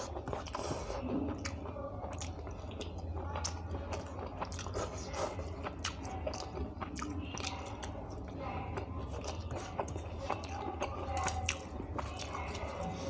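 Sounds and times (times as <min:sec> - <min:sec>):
steady low hum: 0:00.0 - 0:13.0
wet mouth chewing: 0:00.0 - 0:13.0.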